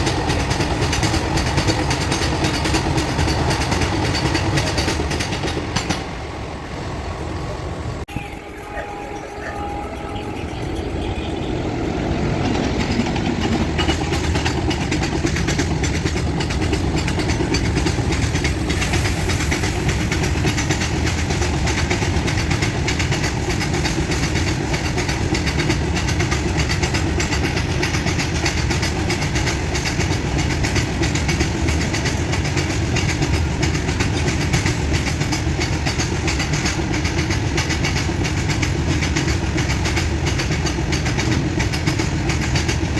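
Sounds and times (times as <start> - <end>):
train wheels clattering over rails: 0.0 - 8.0, 10.6 - 42.9.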